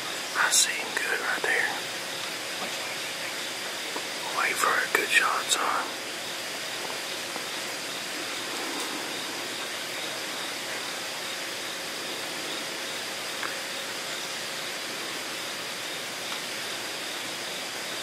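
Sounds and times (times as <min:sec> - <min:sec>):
faint steady high tones: 0:00.0 - 0:18.0
steady outdoor background hiss: 0:00.0 - 0:18.0.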